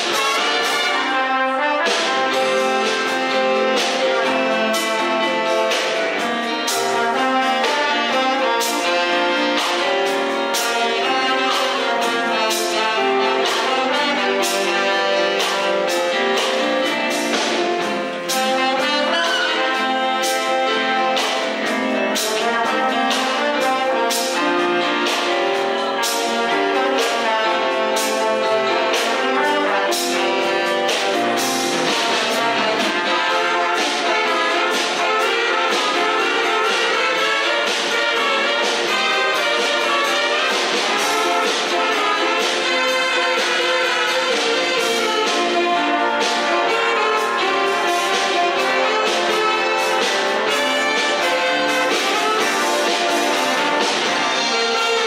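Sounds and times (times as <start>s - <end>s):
brass band playing over a beat: 0.0s - 55.0s.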